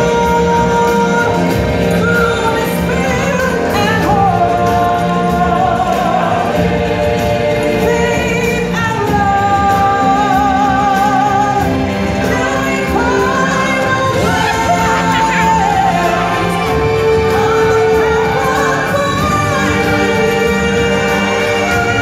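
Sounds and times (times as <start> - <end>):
full band backing: 0.0 - 22.0
singers and choir with vibrato: 0.0 - 22.0.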